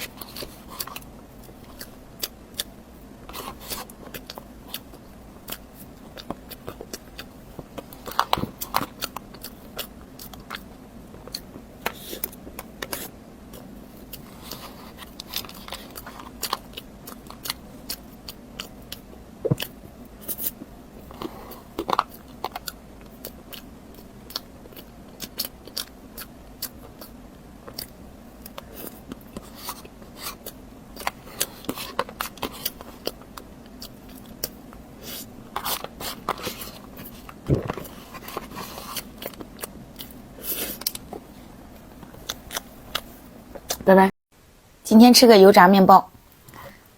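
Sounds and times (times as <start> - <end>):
person chewing: 0.0 - 43.8.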